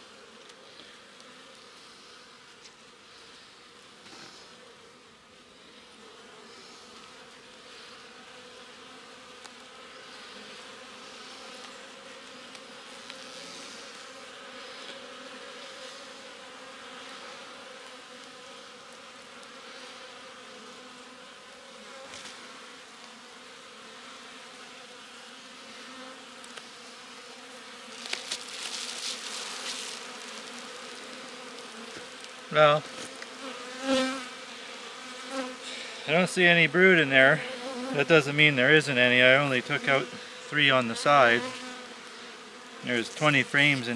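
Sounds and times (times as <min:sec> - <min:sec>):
honeybees humming: 0:00.0 - 0:43.9.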